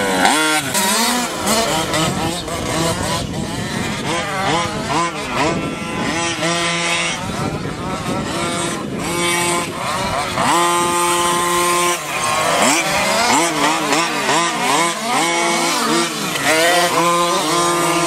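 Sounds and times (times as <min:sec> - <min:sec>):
small engines revving high whine: 0:00.0 - 0:18.0.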